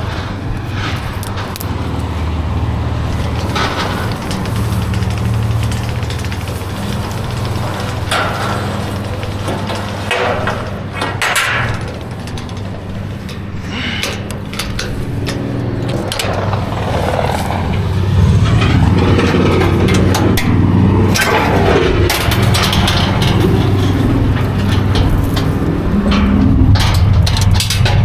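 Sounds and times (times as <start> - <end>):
clanks and rattles: 0.0 - 28.0
vehicle engine running: 0.0 - 28.0.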